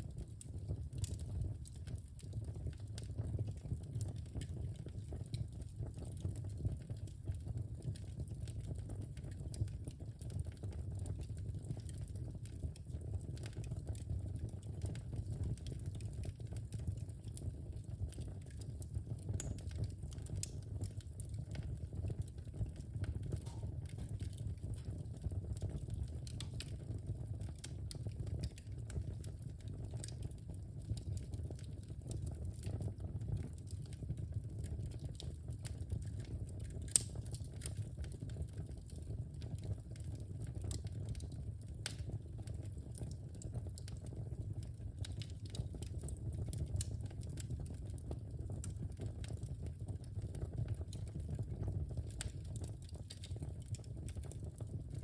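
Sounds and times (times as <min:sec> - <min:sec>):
fire crackling and popping: 0:00.0 - 0:55.0
low rumble of fire flames: 0:00.0 - 0:55.0.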